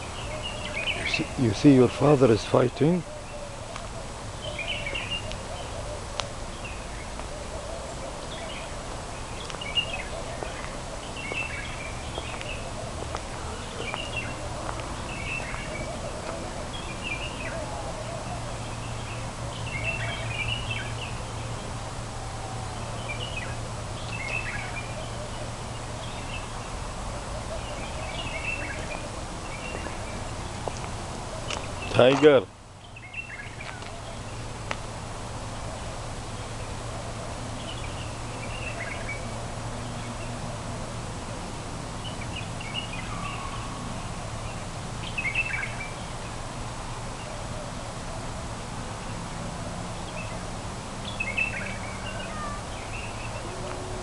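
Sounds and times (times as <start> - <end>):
small birds chirping: 0.0 - 22.0, 22.6 - 41.1, 41.8 - 54.0.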